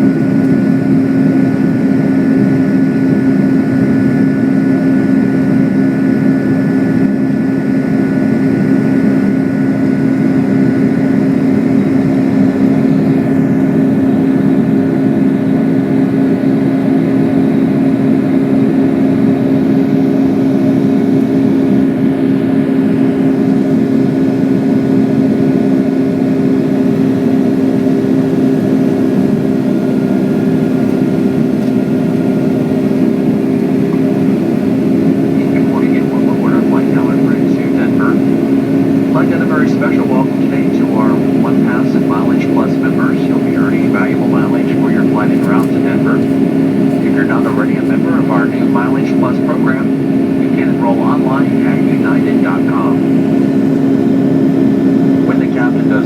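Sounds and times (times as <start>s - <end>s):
faint high engine whines: 0.0s - 56.0s
jet engines droning in cabin: 0.0s - 56.0s.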